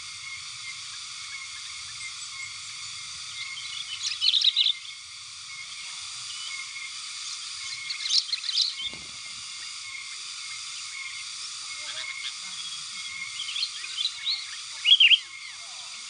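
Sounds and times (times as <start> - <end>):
bulbuls chirping: 1.3 - 16.0.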